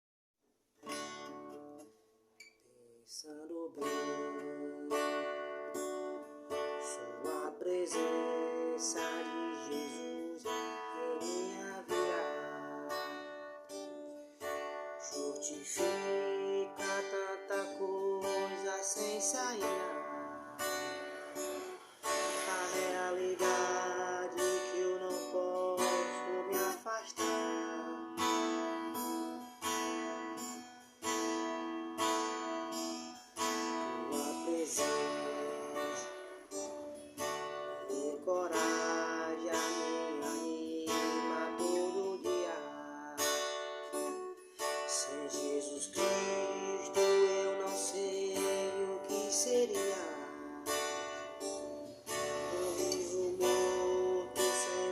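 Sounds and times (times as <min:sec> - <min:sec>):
acoustic guitar strumming: 0:00.8 - 0:54.9.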